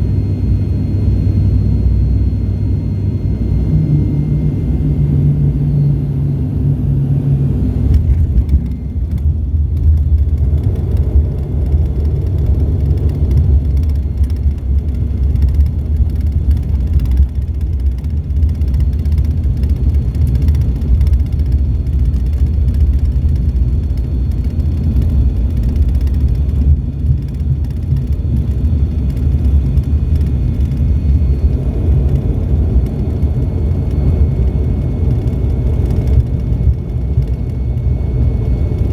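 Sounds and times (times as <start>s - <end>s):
airliner engine rumble: 0.0s - 38.9s
propeller hum: 0.0s - 38.9s.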